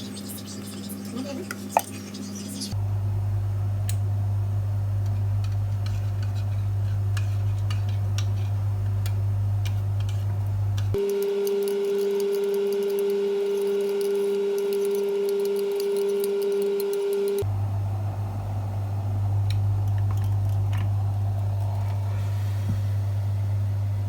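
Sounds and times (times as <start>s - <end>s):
higher-pitched steady hum: 0.0s - 24.0s
low machine hum: 0.0s - 24.0s.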